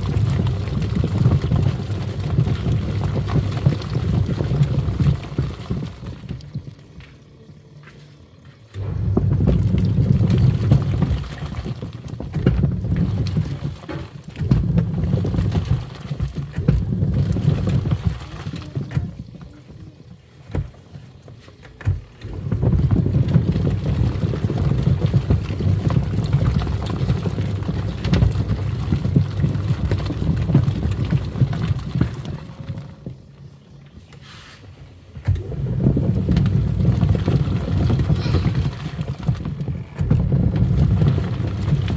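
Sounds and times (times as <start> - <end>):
washing machine sloshing water: 0.0 - 41.9.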